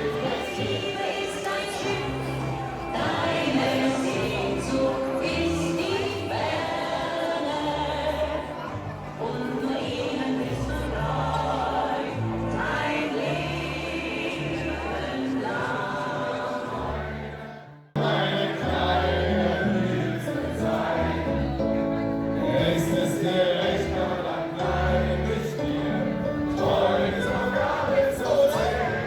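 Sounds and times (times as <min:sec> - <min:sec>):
group singing a sea shanty: 0:00.0 - 0:29.0.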